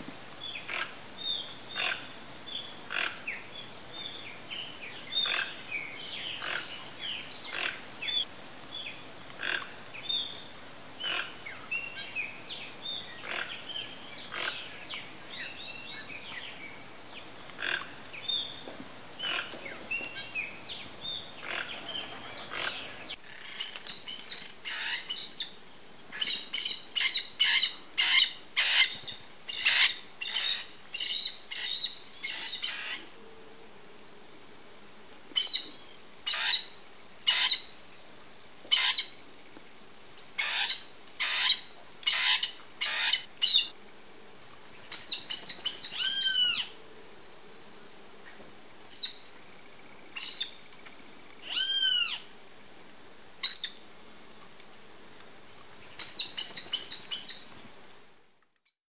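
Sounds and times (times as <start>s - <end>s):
insect drone: 0.0s - 58.8s.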